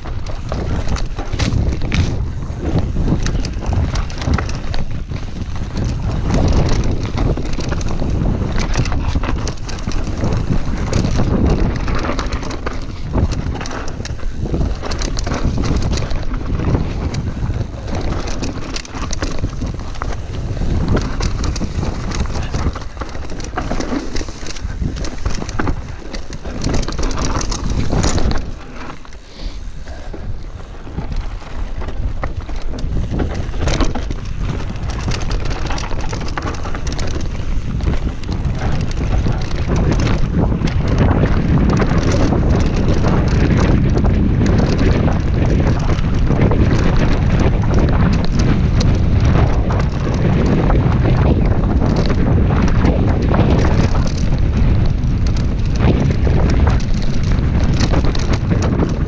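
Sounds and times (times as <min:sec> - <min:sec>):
bike clattering over bumps: 0:00.0 - 0:59.0
tyres rolling over dirt: 0:00.0 - 0:59.0
wind buffeting microphone: 0:00.0 - 0:59.0.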